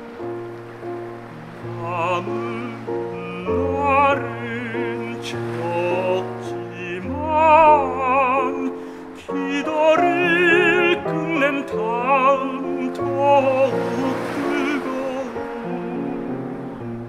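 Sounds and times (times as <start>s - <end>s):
man singing operatically: 1.7s - 16.6s.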